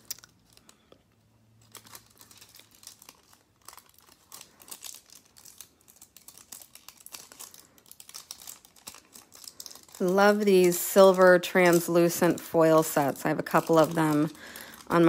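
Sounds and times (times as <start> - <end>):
foil crinkling: 0.0 - 15.0.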